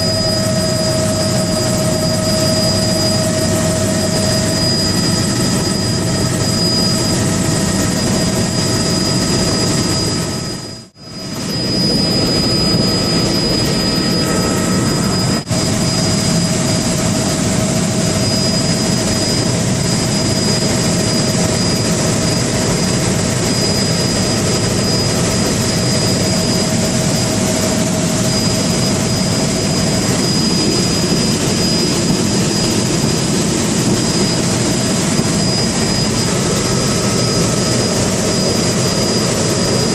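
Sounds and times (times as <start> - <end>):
engine drone with high whine: 0.0 - 39.9.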